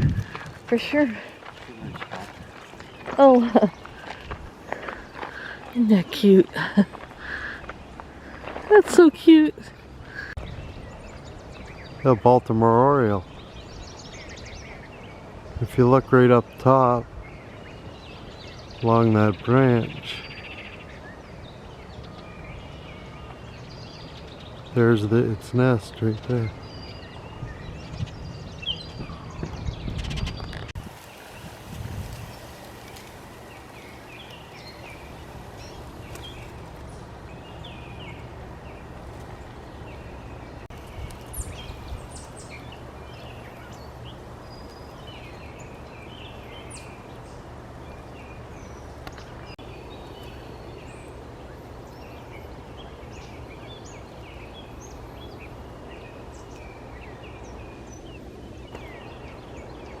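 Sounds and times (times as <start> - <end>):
songbirds chirping and singing: 0.0 - 60.0.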